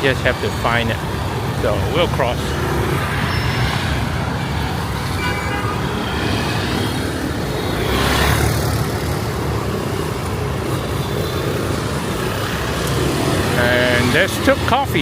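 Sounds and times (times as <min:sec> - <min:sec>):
traffic rumble: 0:00.0 - 0:15.0
vehicle passing close: 0:00.3 - 0:15.0.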